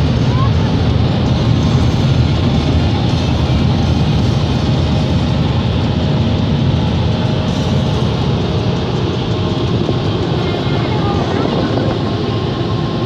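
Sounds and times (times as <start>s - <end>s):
dryer blowers rushing air: 0.0s - 13.0s.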